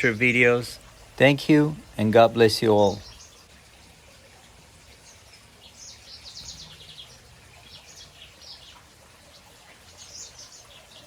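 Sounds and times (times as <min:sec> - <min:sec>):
small birds chirping and twittering: 0:00.0 - 0:11.0.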